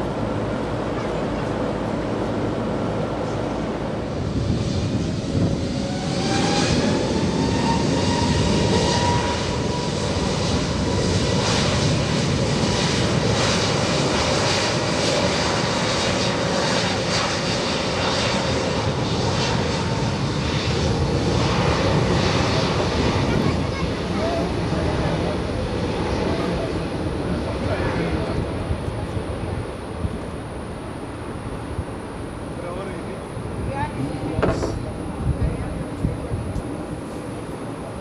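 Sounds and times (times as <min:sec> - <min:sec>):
aircraft engine whine: 0:00.0 - 0:38.0.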